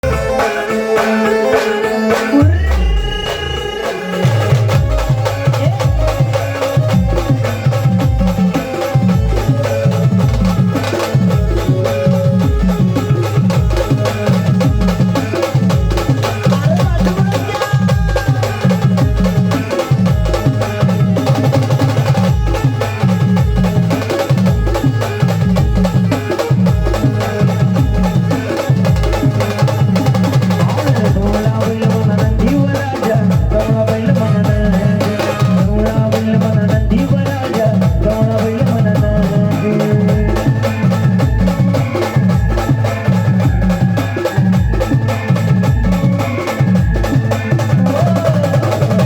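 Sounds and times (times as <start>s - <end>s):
heavy drum beat: 0.0s - 49.0s.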